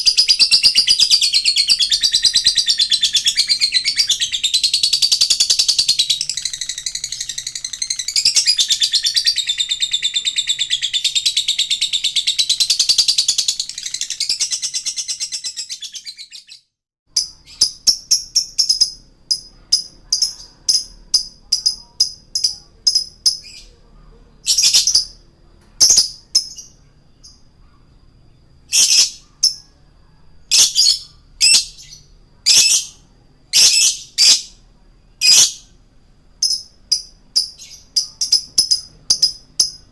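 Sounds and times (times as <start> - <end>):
lovebird chattering warble: 0.0 - 16.5, 17.2 - 23.8, 24.4 - 25.2, 28.7 - 29.7, 30.5 - 34.6, 35.2 - 35.8, 36.4 - 39.9
shrill bird chirps: 0.0 - 39.9.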